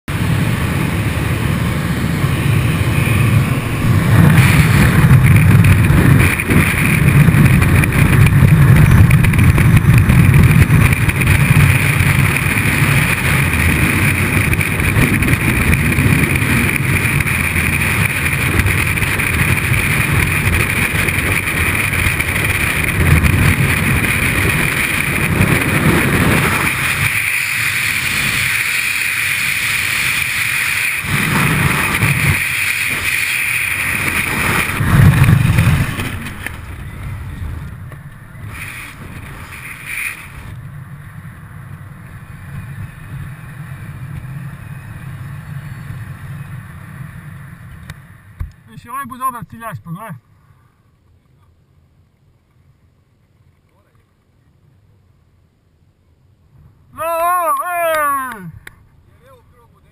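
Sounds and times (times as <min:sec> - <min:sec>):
light aircraft engine: 0:00.1 - 0:48.7, 0:50.2 - 0:56.7
freefall wind buffeting: 0:00.1 - 0:49.8.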